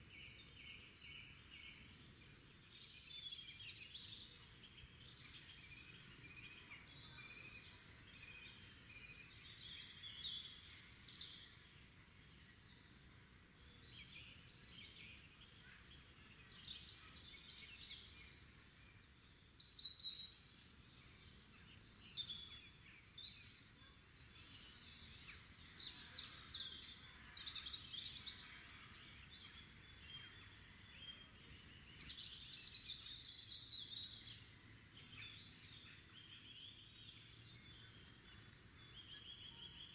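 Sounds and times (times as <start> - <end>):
birds chirping and trilling: 0.1 - 39.9.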